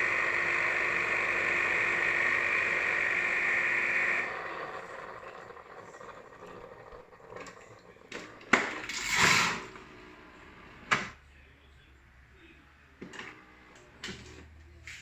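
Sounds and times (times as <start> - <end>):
faint appliance hum: 0.0 - 15.0.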